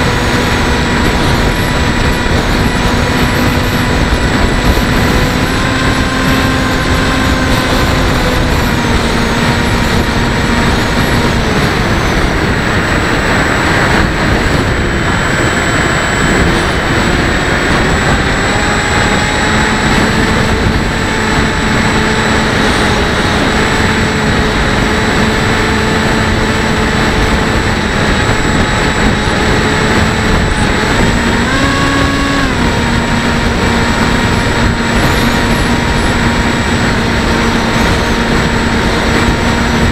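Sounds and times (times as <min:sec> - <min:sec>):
electric motor and propeller whining: 0:00.0 - 0:39.9
wind rush on microphone: 0:00.0 - 0:39.9.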